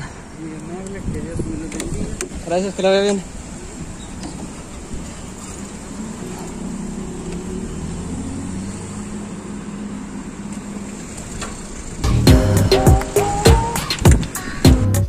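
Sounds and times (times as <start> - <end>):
vehicle engine running: 2.5 - 14.6.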